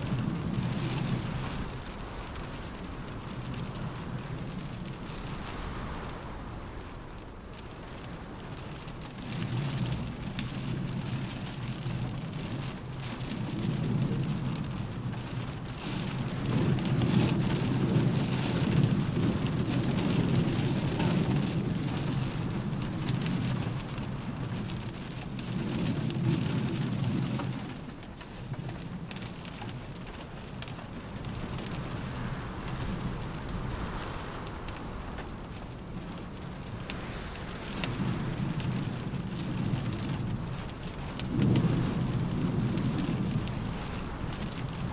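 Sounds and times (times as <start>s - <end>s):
rain on a car roof: 0.0s - 44.9s
wind gusts: 0.0s - 44.9s.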